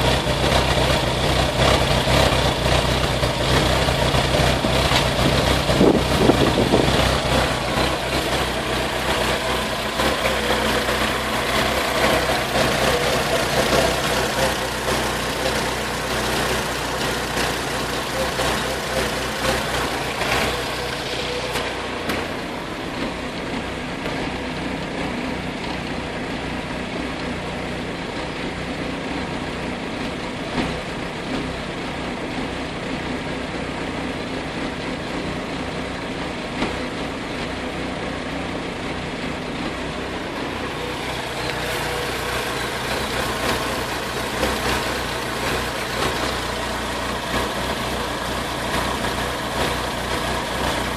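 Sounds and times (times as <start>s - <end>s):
car engine idling with misfire: 0.0s - 50.9s.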